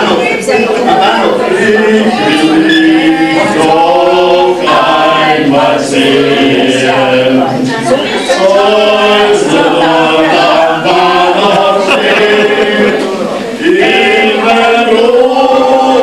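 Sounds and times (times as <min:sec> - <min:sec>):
two men singing through loudspeaker: 0:00.0 - 0:16.0.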